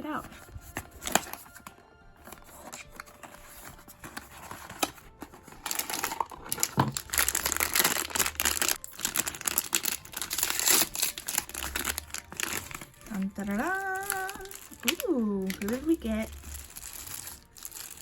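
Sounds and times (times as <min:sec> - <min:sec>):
wrapper crinkling and tearing: 0:00.3 - 0:18.0.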